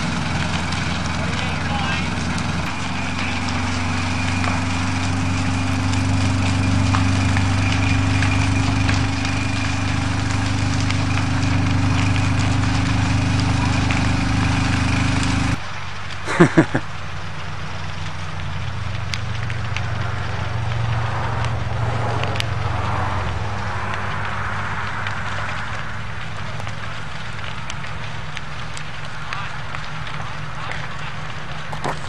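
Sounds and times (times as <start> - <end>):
engine running with whine: 0.0 - 16.1, 16.7 - 32.0
sharp crackles: 0.0 - 32.0.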